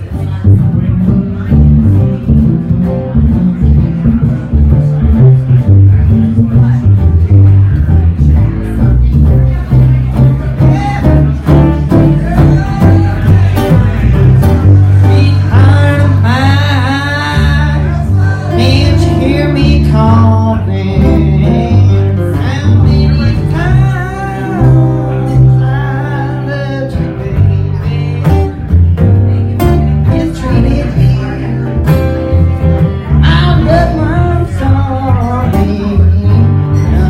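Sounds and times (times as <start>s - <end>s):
bass notes: 0.0s - 37.0s
bluegrass band playing: 0.0s - 37.0s
sliding lead melody: 0.0s - 37.0s.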